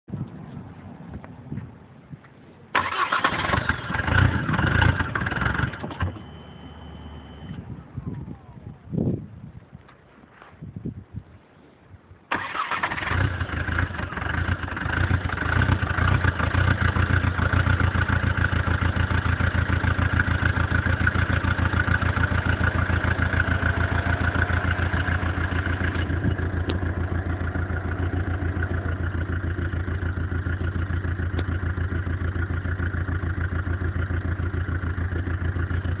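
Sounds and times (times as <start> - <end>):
diesel engine starting and idling: 2.7 - 7.9, 12.3 - 36.0.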